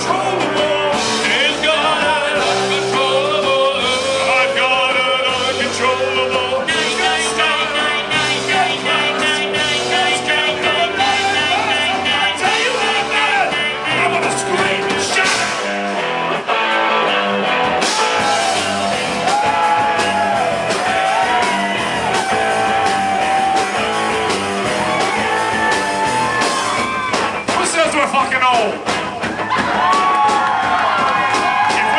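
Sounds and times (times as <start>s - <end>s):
live rock and roll band: 0.0s - 31.9s.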